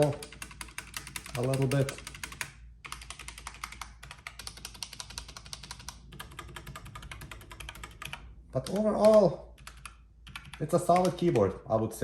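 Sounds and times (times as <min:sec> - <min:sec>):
mechanical keyboard typing: 0:00.0 - 0:11.6.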